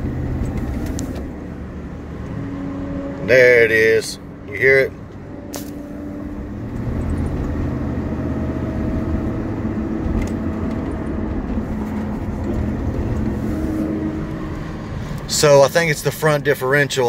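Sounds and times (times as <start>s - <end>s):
car engine: 0.0s - 17.0s
road noise: 0.0s - 17.0s.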